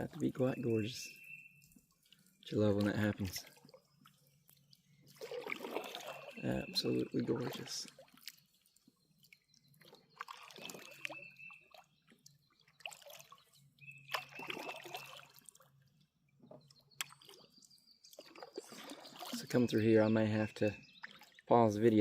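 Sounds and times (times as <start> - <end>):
water splashing and dripping: 0.0 - 15.8, 16.4 - 22.0.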